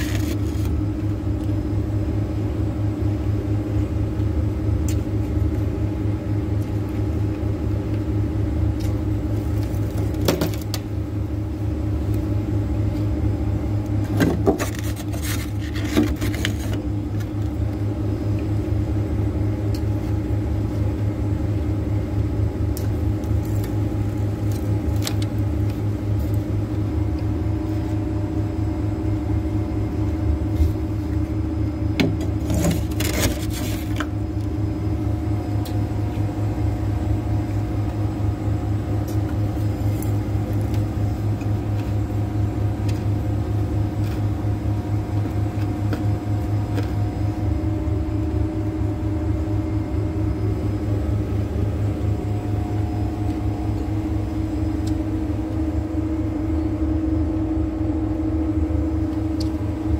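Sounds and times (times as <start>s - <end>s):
freezer humming: 0.0s - 59.9s.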